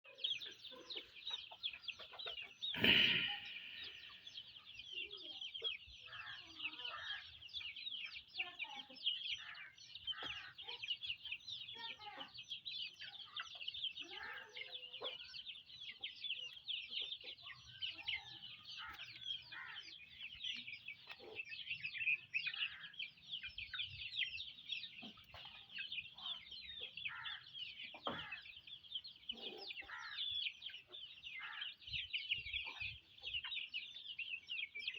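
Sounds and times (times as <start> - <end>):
chicks peeping: 0.0 - 34.9
chicken clucks: 0.1 - 34.9.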